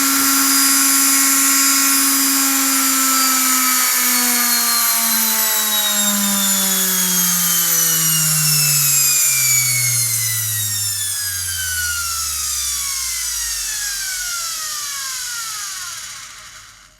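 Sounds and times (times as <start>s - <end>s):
electric motor whine spinning down: 0.0s - 16.9s.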